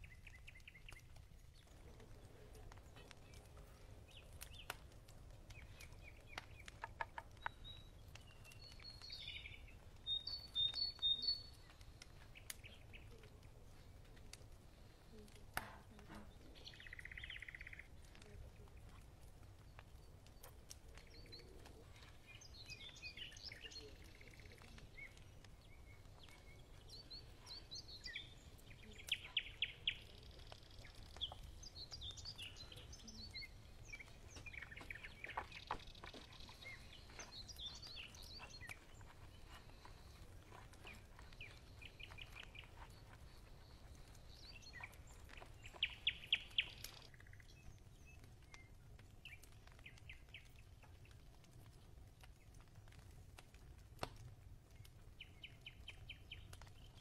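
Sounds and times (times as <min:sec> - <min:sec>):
birds chirping and singing: 0:00.0 - 0:13.4, 0:16.2 - 0:19.0, 0:19.6 - 0:51.2, 0:55.2 - 0:57.0.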